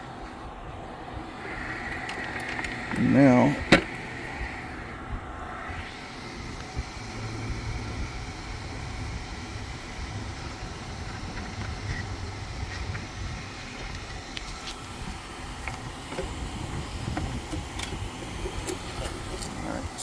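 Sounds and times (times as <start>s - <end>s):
hum: 0.0s - 20.0s
low background rumble: 0.0s - 20.0s.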